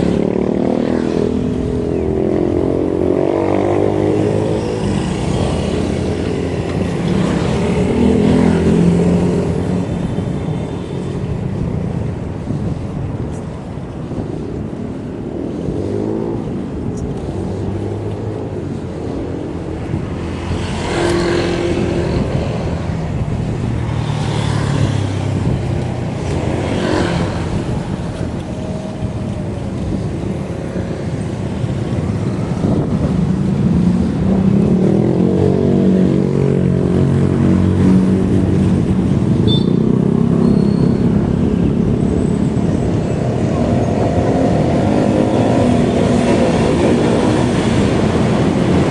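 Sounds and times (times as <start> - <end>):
bicycle riding noise: 0.0 - 48.9
cars passing: 0.0 - 48.9.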